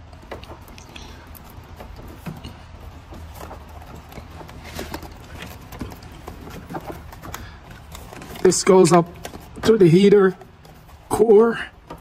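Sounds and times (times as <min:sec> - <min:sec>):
light clicks and knocks of hose: 0:00.0 - 0:12.0.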